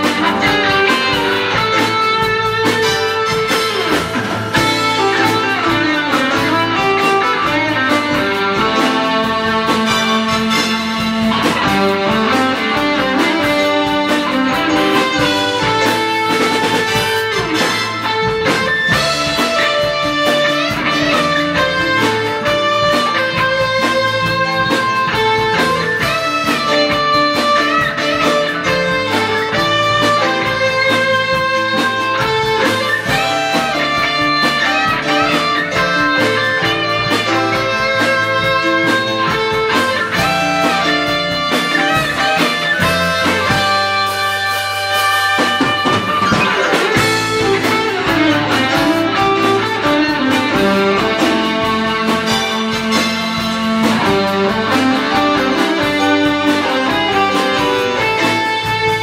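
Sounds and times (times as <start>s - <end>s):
band playing: 0.0s - 59.0s
drums keeping a beat: 0.0s - 59.0s
electric guitar: 0.0s - 59.0s.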